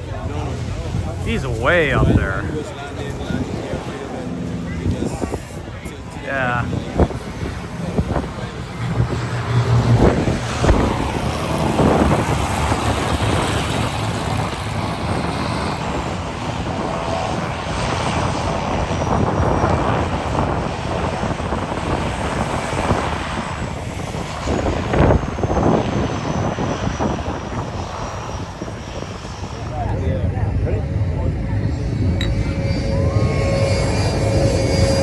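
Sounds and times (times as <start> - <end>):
airplane engines running loud: 0.0 - 35.0
high whine falling in pitch: 0.0 - 35.0.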